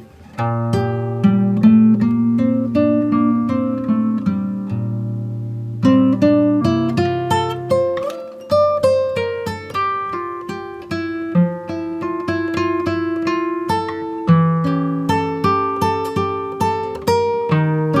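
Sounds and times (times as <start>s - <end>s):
acoustic guitar plucked: 0.0s - 18.0s.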